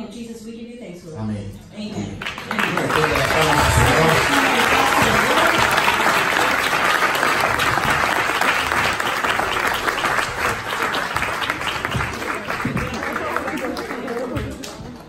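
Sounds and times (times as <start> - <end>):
audience applauding: 2.2 - 15.0.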